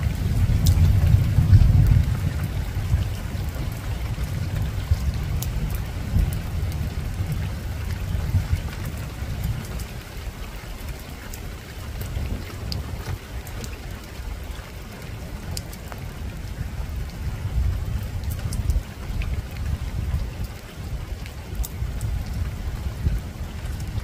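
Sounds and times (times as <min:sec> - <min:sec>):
rain on a roof: 0:00.0 - 0:24.0.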